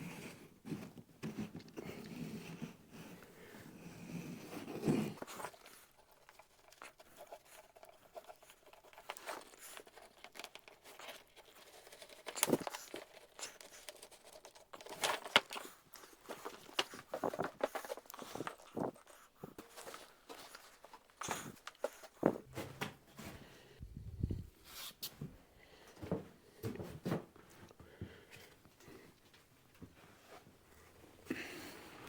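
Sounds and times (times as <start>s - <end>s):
rustling of materials: 0.2s - 32.0s.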